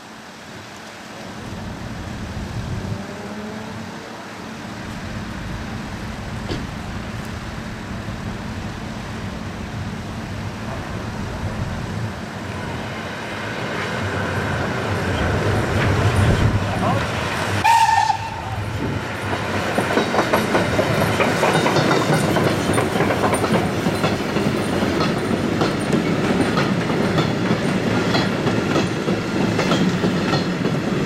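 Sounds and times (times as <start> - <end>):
steam train rumbling past: 0.0 - 31.0.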